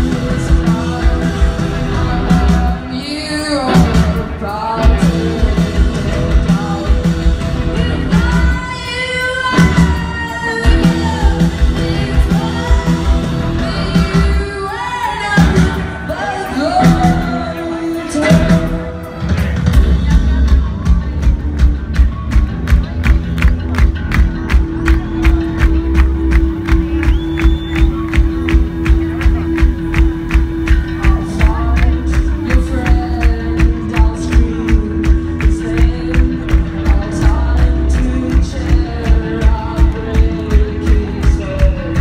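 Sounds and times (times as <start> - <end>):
woman singing lead: 0.0 - 21.0, 24.5 - 42.0
bass guitar: 0.0 - 42.0
drums: 0.0 - 42.0.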